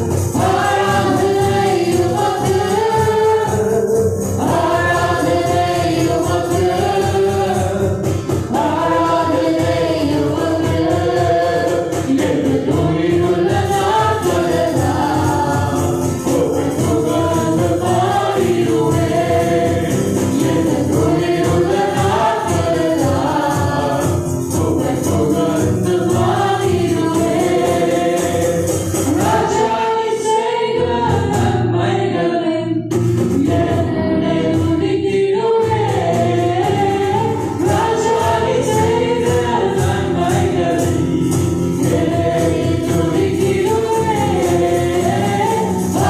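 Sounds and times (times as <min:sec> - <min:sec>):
woman singing lead: 0:00.0 - 0:41.2
acoustic guitar: 0:00.0 - 0:46.0
backing singers: 0:00.0 - 0:46.0
keyboard: 0:00.0 - 0:46.0.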